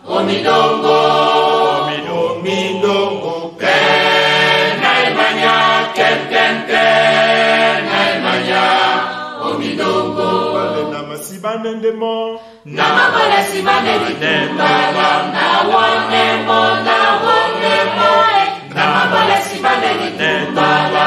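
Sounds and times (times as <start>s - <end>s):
group singing unaccompanied: 0.0s - 11.3s, 12.7s - 21.0s.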